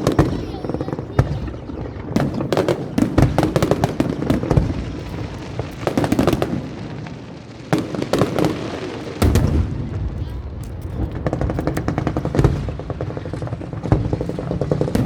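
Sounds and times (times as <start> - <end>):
fireworks cracking and booming: 0.0 - 15.0.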